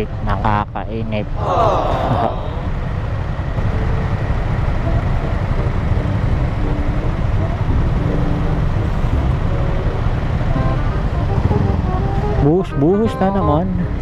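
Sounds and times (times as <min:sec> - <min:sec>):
traffic noise: 0:00.0 - 0:14.0
motorcycle engine rumbling: 0:02.4 - 0:14.0.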